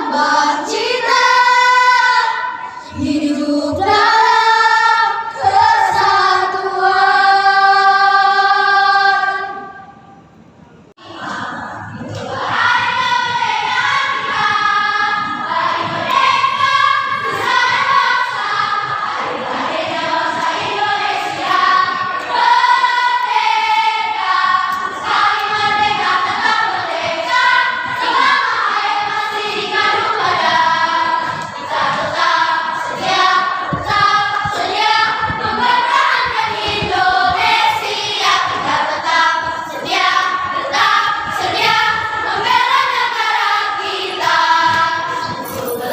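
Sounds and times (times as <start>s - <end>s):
choir singing: 0.0s - 10.0s, 11.0s - 45.9s.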